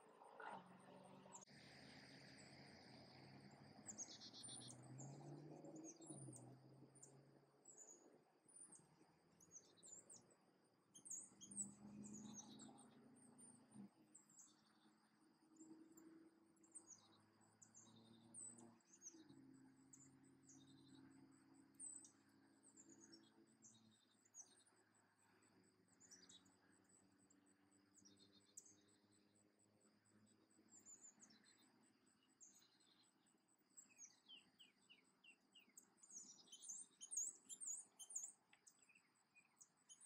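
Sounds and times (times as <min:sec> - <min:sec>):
small birds chirping: 0:00.2 - 0:10.3, 0:10.9 - 0:15.0, 0:15.6 - 0:40.0.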